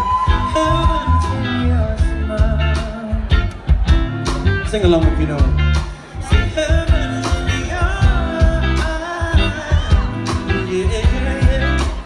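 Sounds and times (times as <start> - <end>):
man singing: 0.0 - 3.8, 4.7 - 12.0
live band playing: 0.0 - 12.0.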